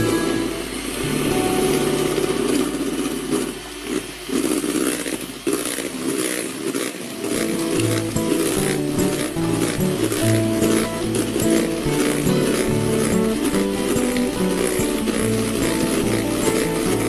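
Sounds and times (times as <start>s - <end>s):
electric hand mixer whipping: 0.0s - 17.0s.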